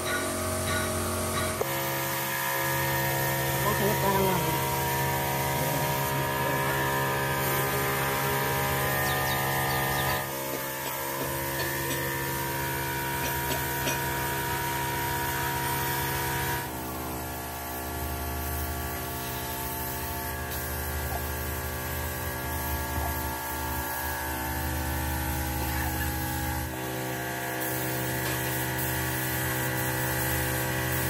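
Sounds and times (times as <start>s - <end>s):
workshop machinery humming: 0.0s - 31.0s.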